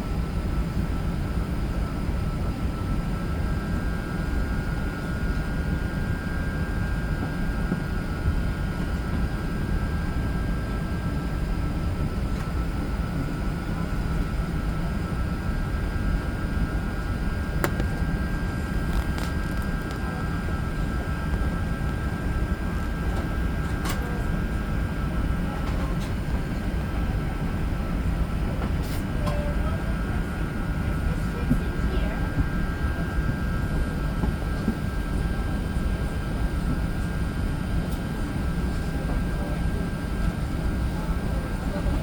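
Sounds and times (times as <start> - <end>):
aircraft cabin rumble and hum: 0.0 - 42.0.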